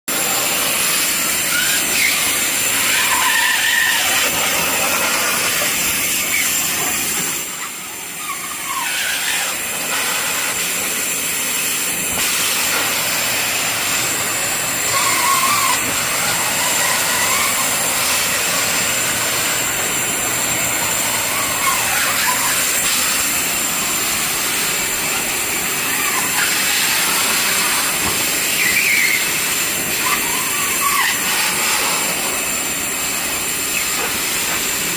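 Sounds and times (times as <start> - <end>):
vacuum cleaner sucking up water: 0.1 - 34.9.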